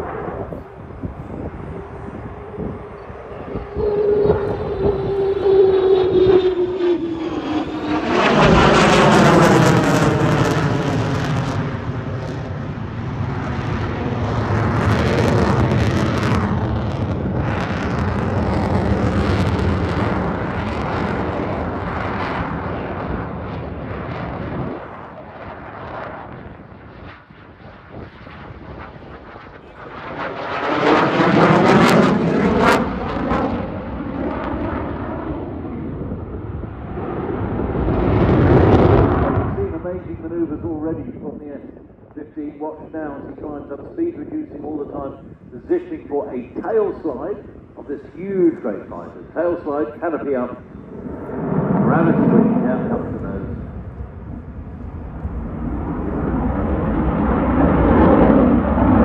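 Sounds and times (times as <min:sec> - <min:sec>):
jet roar passing: 0:00.0 - 0:59.0.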